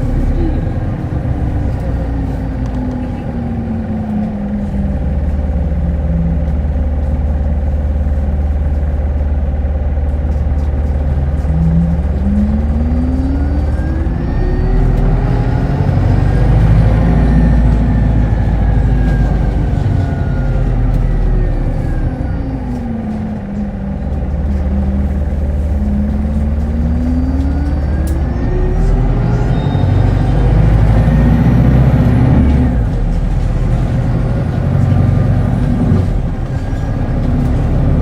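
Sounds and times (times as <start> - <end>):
bus diesel engine rumble: 0.0 - 38.0
bus motor whine: 0.0 - 38.0.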